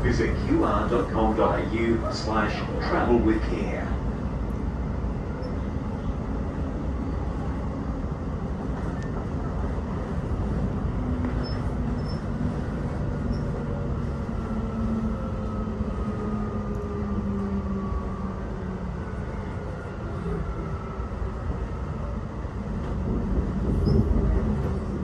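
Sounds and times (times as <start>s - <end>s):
train rail rumble: 0.0s - 25.0s.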